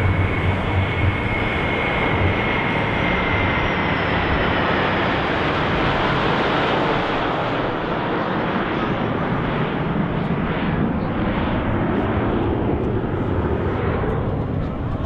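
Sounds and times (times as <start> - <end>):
faint aircraft whine: 0.0 - 15.0
jet engine roar overhead: 0.0 - 15.0.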